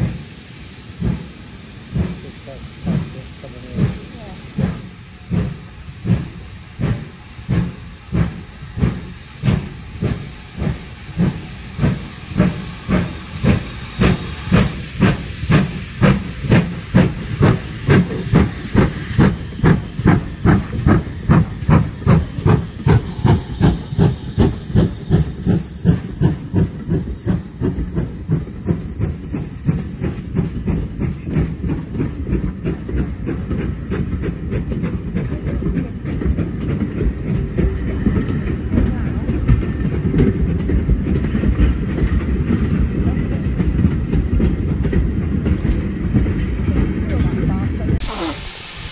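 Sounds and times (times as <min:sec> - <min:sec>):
steam hissing: 0:00.0 - 0:48.9
steam locomotive chuffing: 0:00.0 - 0:48.9
train coaches rumbling past: 0:00.0 - 0:48.9.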